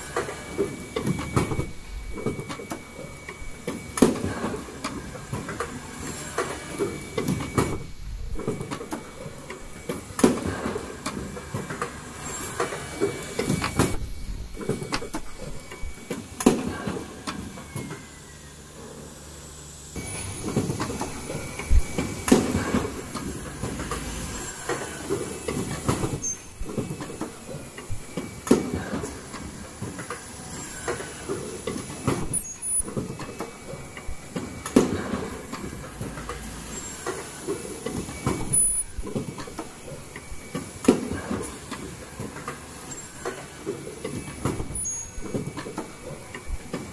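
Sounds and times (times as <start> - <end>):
steady machine hum: 0.0 - 46.9.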